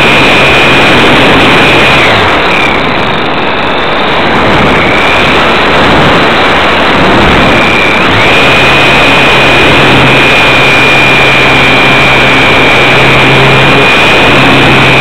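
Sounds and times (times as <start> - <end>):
electric motor whine: 0.0 - 15.0
rushing airflow: 0.0 - 15.0.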